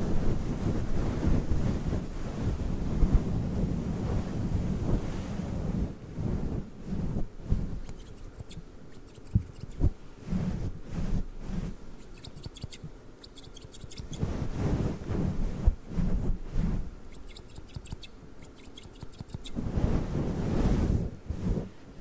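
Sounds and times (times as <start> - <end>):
microphone windscreen rubbing: 0.0 - 21.8.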